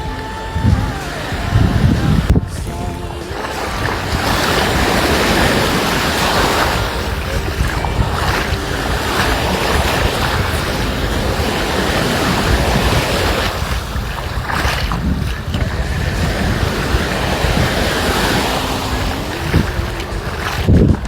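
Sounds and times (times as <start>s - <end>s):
sea surf washing onto beach: 0.0s - 21.0s
wind buffeting microphone: 0.0s - 21.0s.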